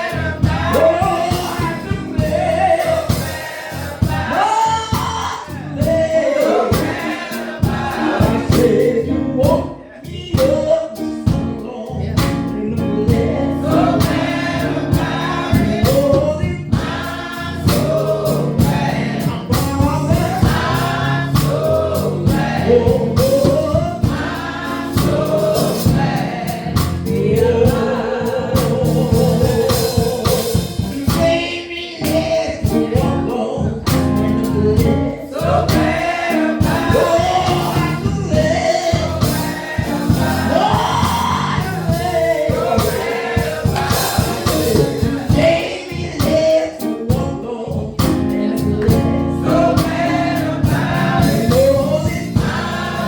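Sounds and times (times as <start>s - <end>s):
drums beating: 0.0s - 9.7s, 13.1s - 31.5s, 33.9s - 47.3s, 48.0s - 53.0s
gospel choir singing: 0.0s - 53.0s.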